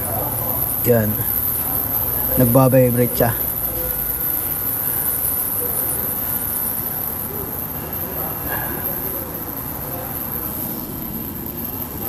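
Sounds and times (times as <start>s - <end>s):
machine whining and humming: 0.0s - 12.0s.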